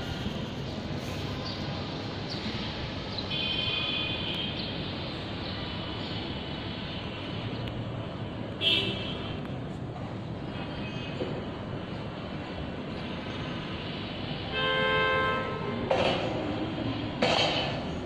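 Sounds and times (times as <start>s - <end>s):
distant traffic hum: 0.0s - 18.0s.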